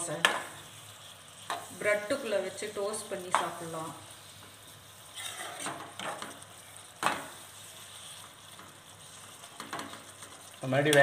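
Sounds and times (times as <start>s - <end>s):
mushrooms sizzling: 0.0s - 11.0s
spatula scraping a pan: 0.0s - 11.0s.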